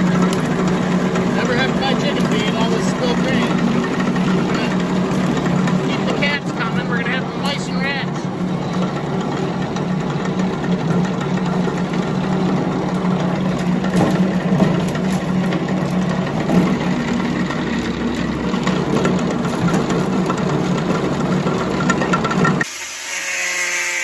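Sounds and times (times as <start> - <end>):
grain grinder running: 0.0 - 24.0.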